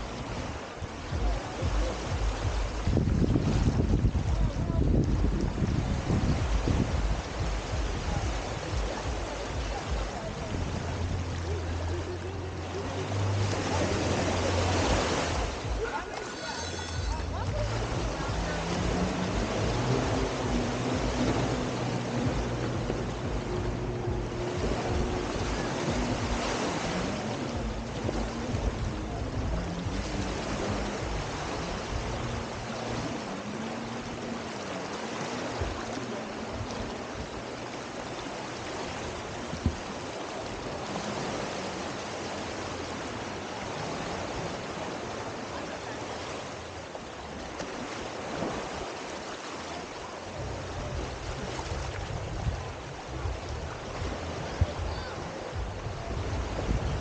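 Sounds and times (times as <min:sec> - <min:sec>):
small waves washing on beach: 0:00.0 - 0:57.0
wind rumbling on microphone: 0:00.0 - 0:57.0.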